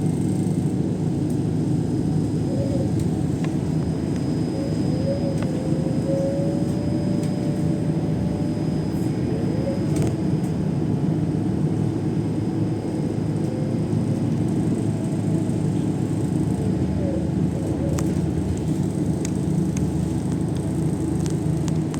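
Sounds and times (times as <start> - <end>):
moving vehicle rumble: 0.0 - 21.9
faint whine sliding in pitch: 0.7 - 21.9.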